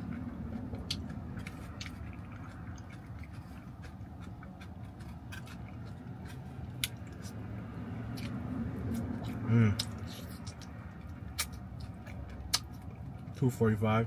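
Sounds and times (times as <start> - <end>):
person chewing food: 0.0 - 13.4.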